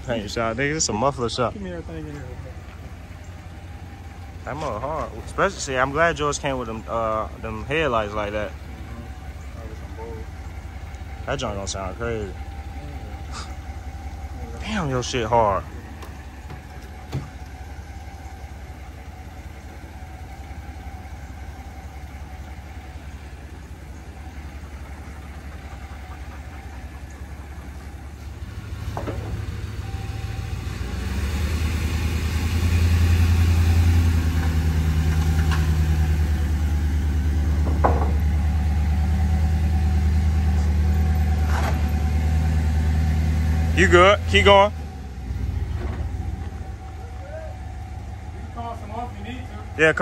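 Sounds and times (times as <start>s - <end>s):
truck engine rumbling: 0.0s - 50.0s.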